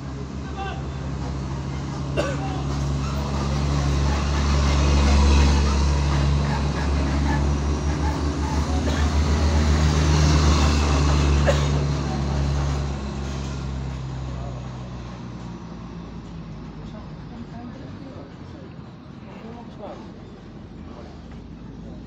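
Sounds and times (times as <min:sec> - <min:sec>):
armoured vehicle engines driving past: 0:00.0 - 0:22.0.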